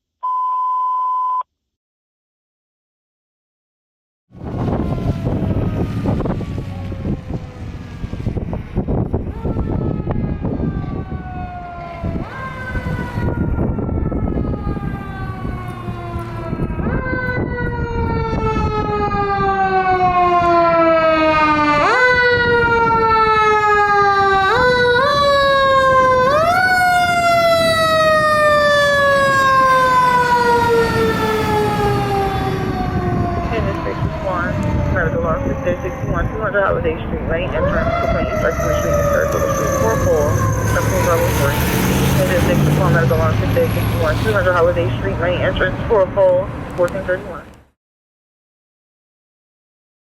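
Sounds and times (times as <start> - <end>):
fire engine siren wailing: 4.3 - 47.6
truck rumble: 4.3 - 47.7.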